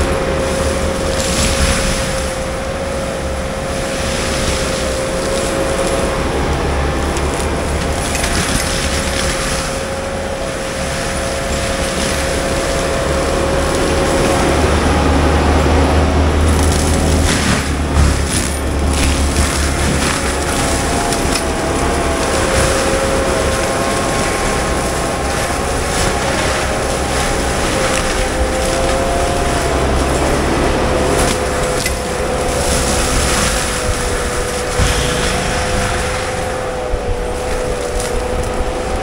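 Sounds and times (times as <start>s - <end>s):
diesel engine rumble: 0.0s - 39.0s
mulcher whine: 0.0s - 39.0s
brush cracking and snapping: 3.8s - 10.0s, 10.9s - 39.0s.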